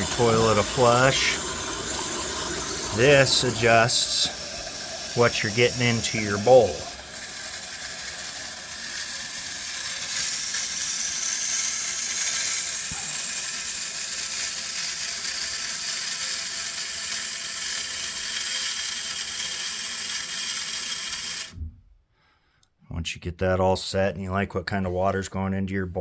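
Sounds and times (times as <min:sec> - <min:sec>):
water hissing through toilet valve: 0:00.0 - 0:21.6.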